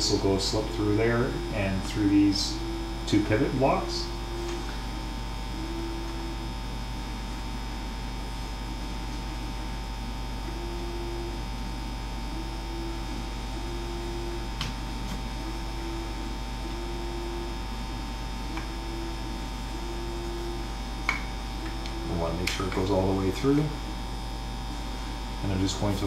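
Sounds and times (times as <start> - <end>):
electrical mains hum: 0.0 - 26.0
faint pulsing low tone: 0.0 - 26.0.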